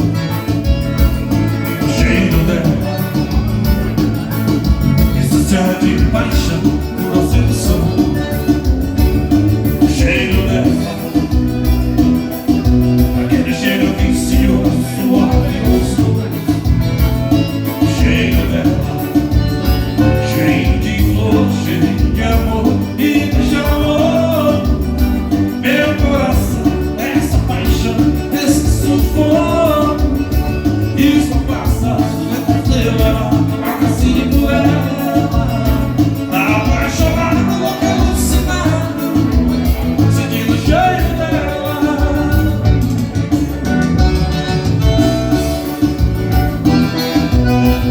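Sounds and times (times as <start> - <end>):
live dance band playing: 0.0 - 47.9
person singing: 1.4 - 47.9.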